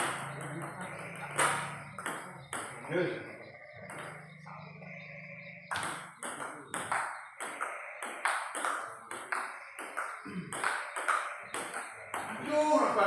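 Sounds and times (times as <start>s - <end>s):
ping-pong ball hitting paddles and table: 0.0s - 3.2s, 3.8s - 4.7s, 5.6s - 13.0s.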